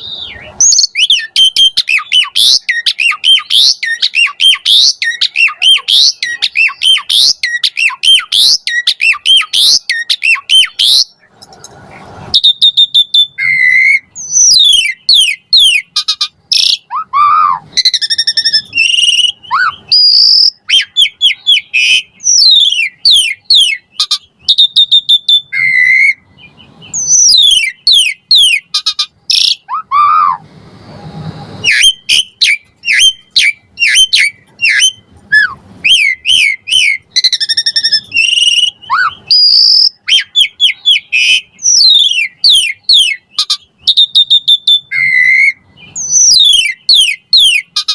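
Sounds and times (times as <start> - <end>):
starling singing: 0.0 - 11.4, 12.3 - 30.4, 31.6 - 47.9.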